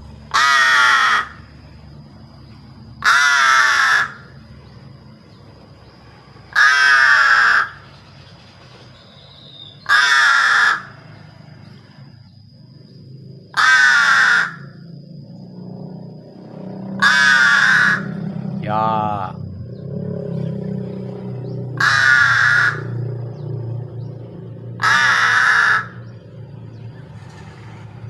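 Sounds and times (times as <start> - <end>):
bird harsh cawing calls: 0.2 - 1.6, 2.9 - 12.4, 13.5 - 15.6, 16.2 - 28.0.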